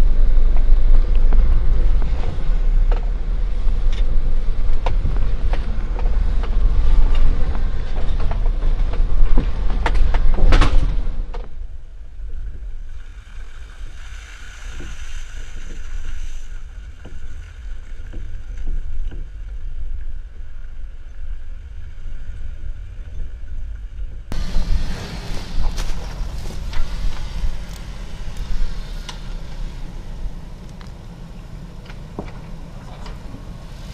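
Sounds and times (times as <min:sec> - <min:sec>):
off-road engines rumbling: 0:00.0 - 0:33.9.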